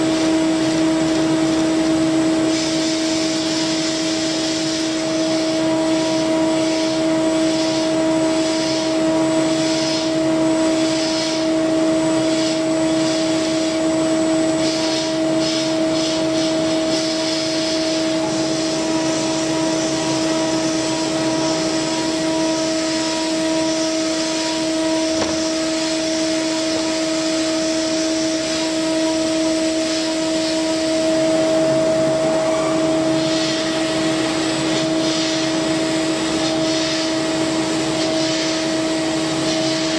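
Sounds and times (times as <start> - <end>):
cutter hissing through metal: 0.0 - 39.9
milling machine spindle whine: 0.0 - 39.9.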